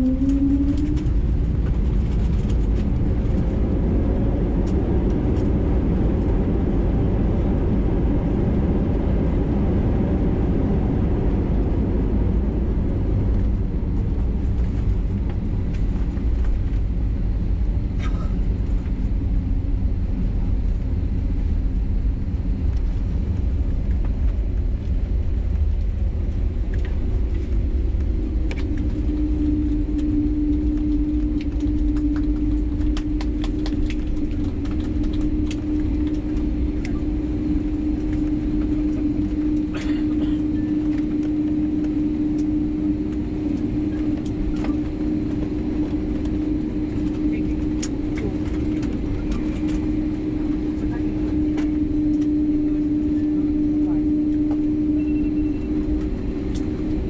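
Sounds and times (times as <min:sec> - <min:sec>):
airliner cabin rumble: 0:00.0 - 0:57.0
steady hum: 0:00.0 - 0:57.0.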